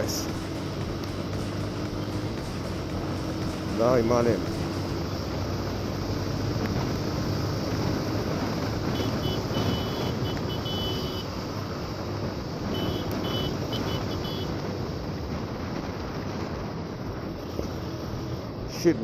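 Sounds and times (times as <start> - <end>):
motorcycle engine hum: 0.0 - 19.0
wind and road noise: 0.0 - 19.0.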